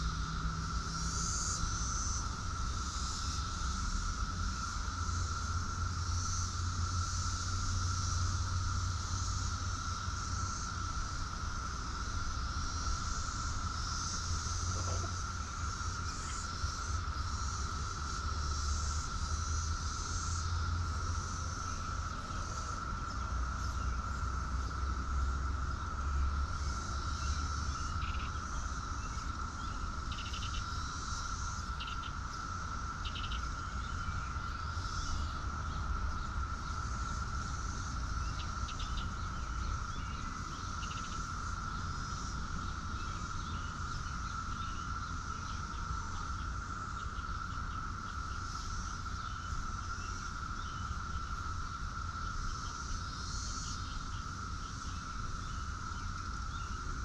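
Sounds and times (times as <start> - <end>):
insects droning: 0.0 - 57.0
short insect chirps: 0.0 - 57.0.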